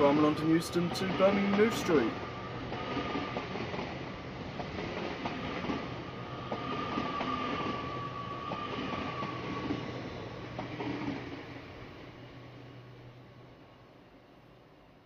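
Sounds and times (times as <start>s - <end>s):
train whine: 0.0s - 15.0s
wheels rushing on rail: 0.0s - 15.0s.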